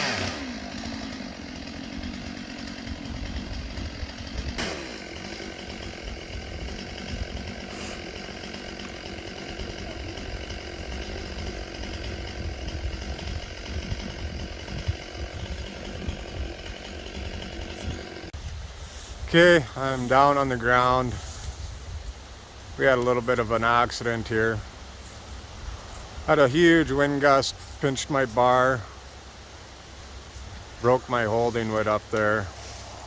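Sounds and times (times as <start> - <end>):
chainsaw idling: 0.0 - 18.4, 19.2 - 25.4, 26.2 - 33.0.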